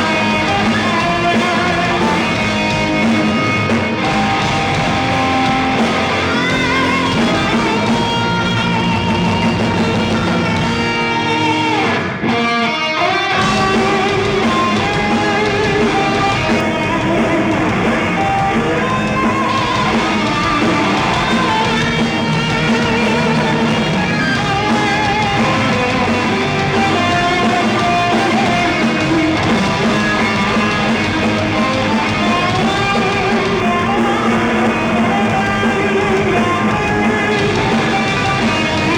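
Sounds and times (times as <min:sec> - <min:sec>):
electric guitar lead melody: 0:00.0 - 0:38.9
rock band playing: 0:00.0 - 0:38.9.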